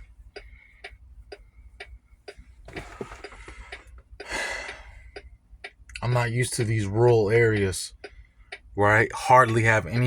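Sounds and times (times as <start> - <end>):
turn signal flasher ticking: 0.0 - 10.0.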